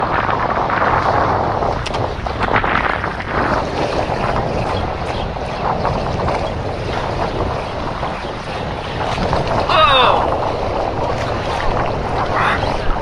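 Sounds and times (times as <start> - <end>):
water washing around boat: 0.0 - 13.0
wind on microphone: 0.0 - 13.0.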